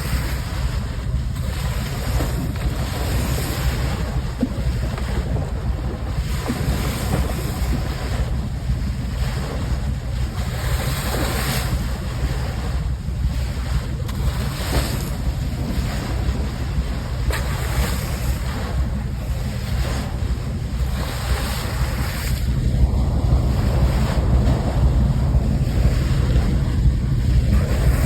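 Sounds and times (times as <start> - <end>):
water rushing along ship bow: 0.0 - 28.0
wind buffeting microphone: 0.0 - 28.0.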